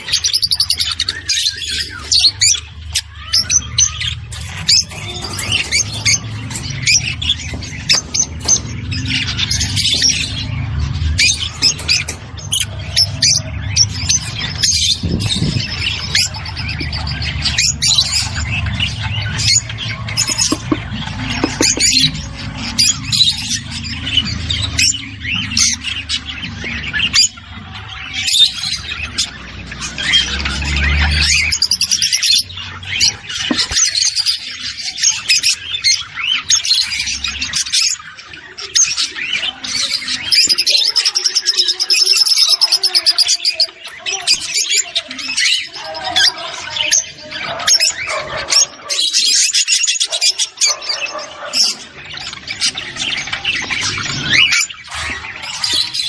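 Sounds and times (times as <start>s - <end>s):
flock of birds chirping and squawking: 0.0s - 56.0s.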